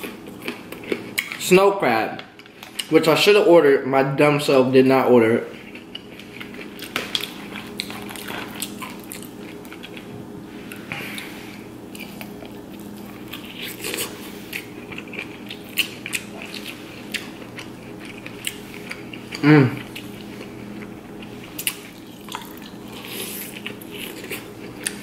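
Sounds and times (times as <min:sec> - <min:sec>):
crunchy chewing: 0:00.0 - 0:01.4, 0:05.5 - 0:25.0.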